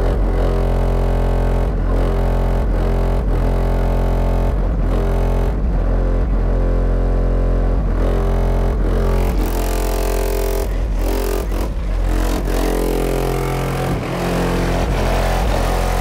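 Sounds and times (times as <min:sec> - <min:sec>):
bass-heavy music through car subwoofer: 0:00.0 - 0:16.0.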